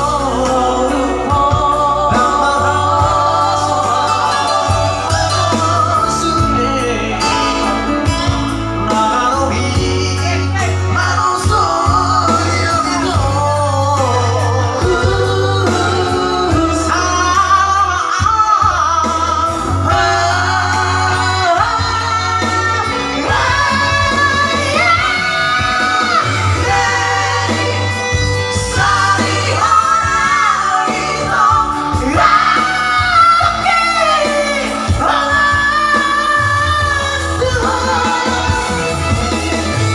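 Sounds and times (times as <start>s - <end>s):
loud backing music with bass: 0.0s - 39.9s
person singing: 0.0s - 39.9s.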